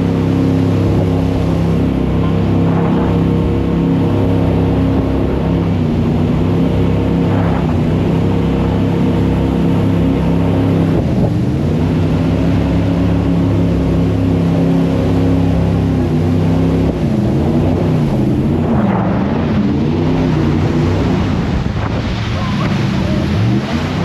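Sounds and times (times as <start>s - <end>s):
jet boat engine running: 0.0s - 24.0s.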